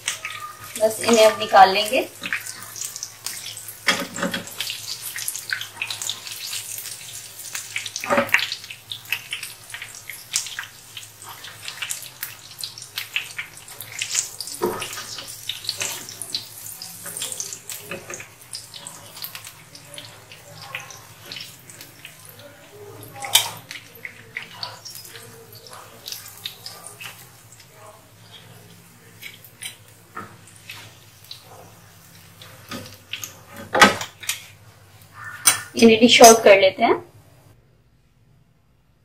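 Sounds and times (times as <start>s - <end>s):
meat deep-frying in oil: 0.0s - 36.6s.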